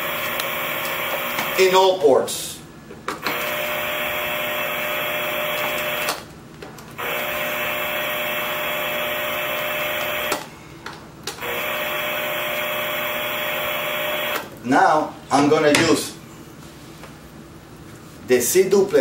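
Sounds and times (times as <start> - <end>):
electrical hiss with buzzing hum: 0.0 - 19.0.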